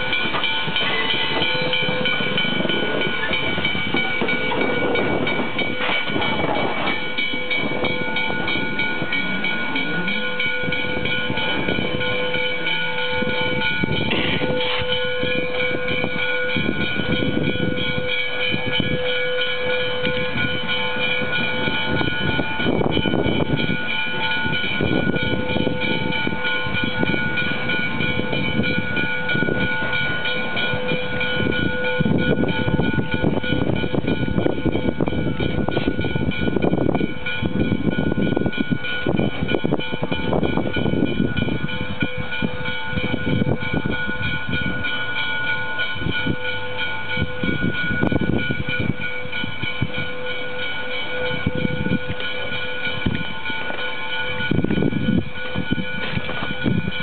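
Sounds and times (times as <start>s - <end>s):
steam locomotive exhaust chuffs: 0.0s - 57.0s.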